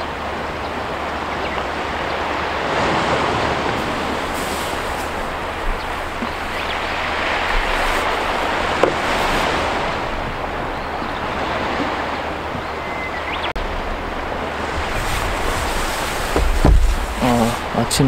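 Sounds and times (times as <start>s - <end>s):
sea waves washing on shore: 0.0s - 18.0s
wind rumbling on microphone: 0.0s - 18.0s.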